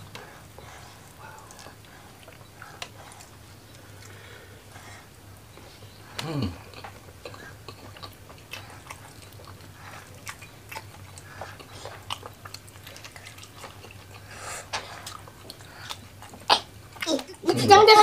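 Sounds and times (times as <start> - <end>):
wet chewing with smacks: 0.0 - 4.2, 5.0 - 17.6.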